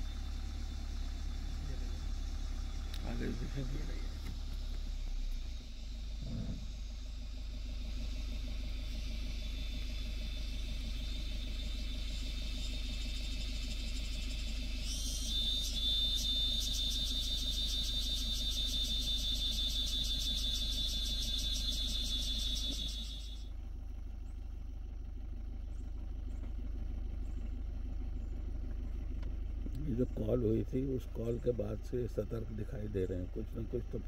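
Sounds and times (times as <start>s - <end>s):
cicadas buzzing: 0.0s - 34.0s
vehicle engine idling: 0.0s - 34.0s.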